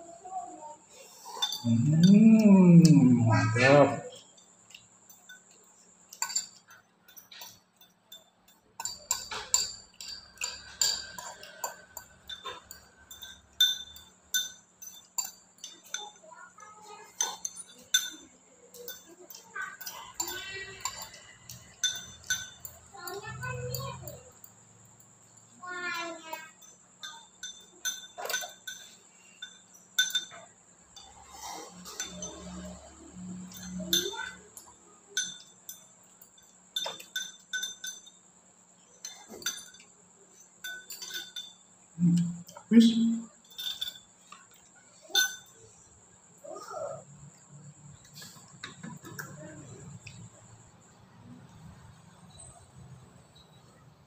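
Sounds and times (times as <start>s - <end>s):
cutlery clinking against ceramic bowl: 1.0s - 25.2s, 25.9s - 50.6s.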